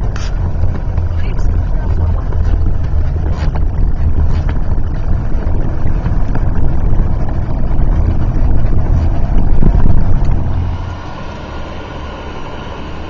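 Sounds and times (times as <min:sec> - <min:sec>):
loud low engine and road rumble: 0:00.0 - 0:13.0.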